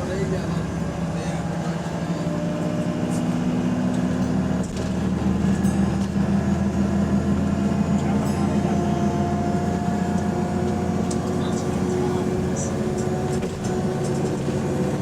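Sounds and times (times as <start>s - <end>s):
bus diesel engine drone: 0.0s - 15.0s
high engine whine: 0.0s - 15.0s.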